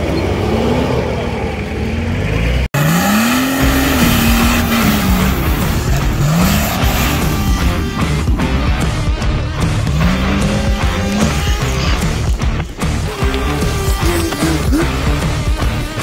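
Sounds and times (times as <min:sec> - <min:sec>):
off-road engines revving: 0:00.0 - 0:16.0
loud background music: 0:03.0 - 0:16.0.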